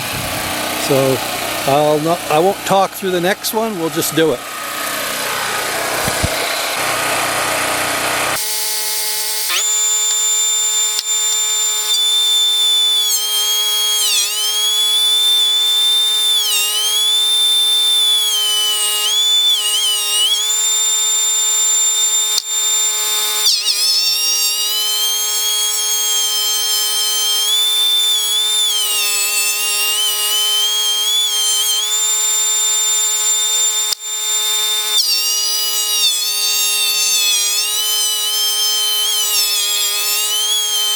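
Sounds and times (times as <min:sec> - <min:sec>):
power tool motor whining: 0:00.0 - 0:40.9
rough machine sound: 0:00.0 - 0:40.9.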